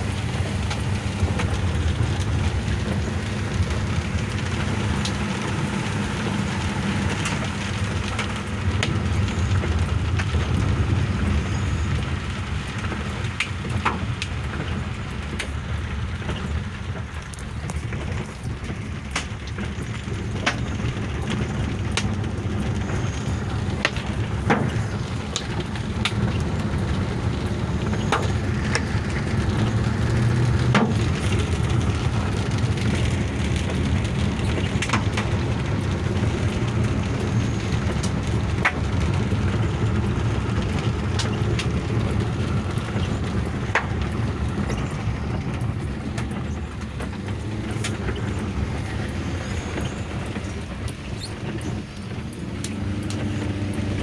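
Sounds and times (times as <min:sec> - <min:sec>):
car driving rumble: 0:00.0 - 0:54.0
hailstones knocking on car: 0:00.0 - 0:54.0.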